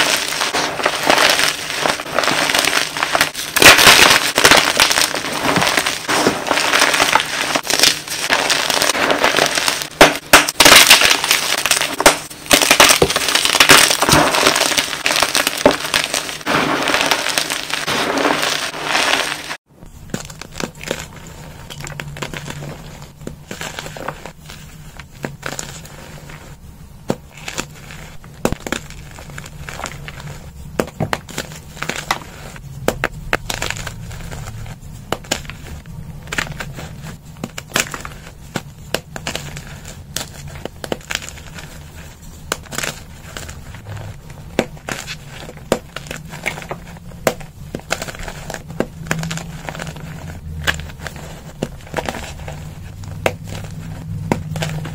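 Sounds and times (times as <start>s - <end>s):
chalk crunching by hand: 0.0s - 26.6s, 27.3s - 54.9s.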